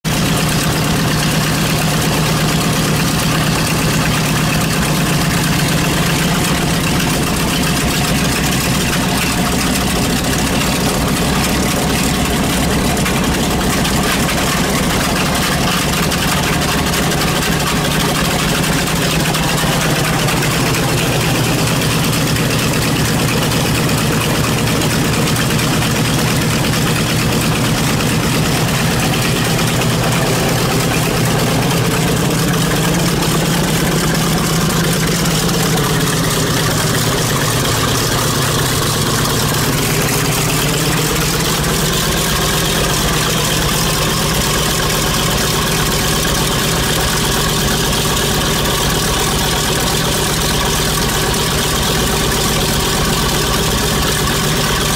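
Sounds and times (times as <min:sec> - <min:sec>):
aircraft radial engine idling: 0:00.0 - 0:54.9.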